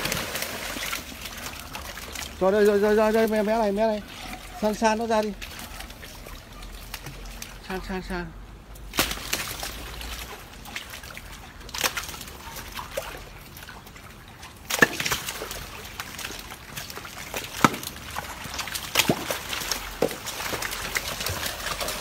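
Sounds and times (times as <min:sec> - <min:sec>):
water sloshing and trickling: 0:00.0 - 0:22.0.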